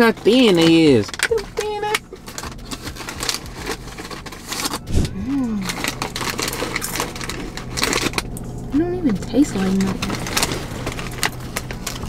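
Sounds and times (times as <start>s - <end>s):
chips crunching: 0.0s - 12.0s
foil snack bag crinkling: 0.0s - 12.0s.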